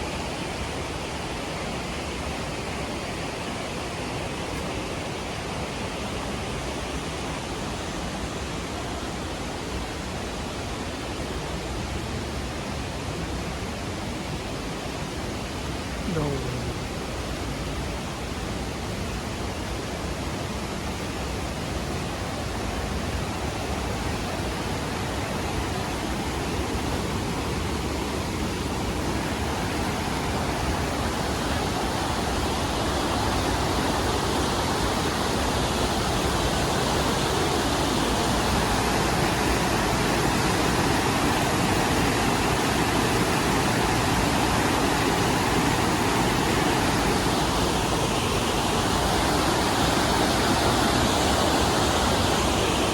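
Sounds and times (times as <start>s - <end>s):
rushing stream and waterfalls: 0.0s - 52.9s.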